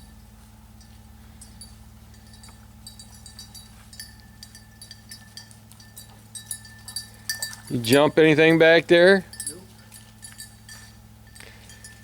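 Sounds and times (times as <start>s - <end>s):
dog collar bell jingling: 0.0s - 12.0s
steady low hum: 0.0s - 12.0s.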